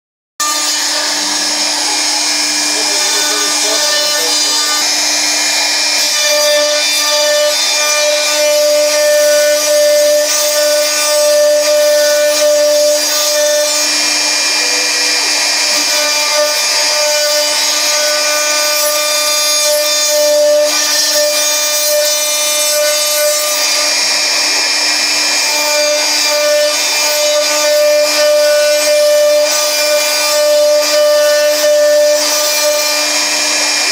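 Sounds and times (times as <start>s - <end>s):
end mill cutting wood: 0.4s - 33.9s
router spindle whining: 0.4s - 33.9s.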